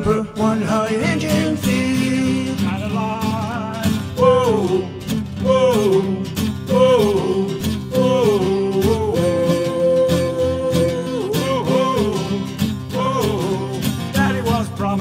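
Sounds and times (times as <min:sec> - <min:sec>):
acoustic guitars strumming: 0:00.0 - 0:15.0
man singing wordless notes: 0:00.0 - 0:15.0.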